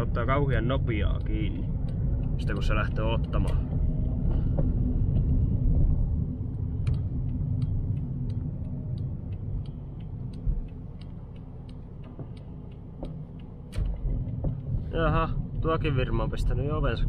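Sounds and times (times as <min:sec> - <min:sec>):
car engine and road rumble: 0:00.0 - 0:17.0
turn signal relay ticking: 0:00.0 - 0:17.0.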